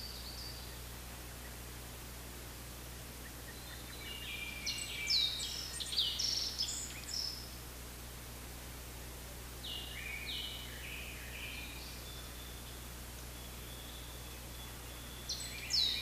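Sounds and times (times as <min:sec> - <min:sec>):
low background noise: 0:00.0 - 0:16.0
songbird singing: 0:00.0 - 0:16.0.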